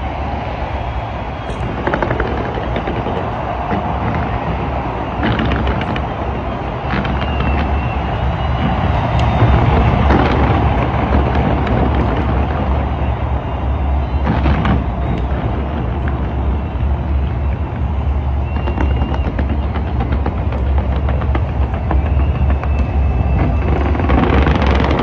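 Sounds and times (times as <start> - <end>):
deep rumble: 0.0 - 25.0
fireworks booms and bangs: 0.0 - 25.0.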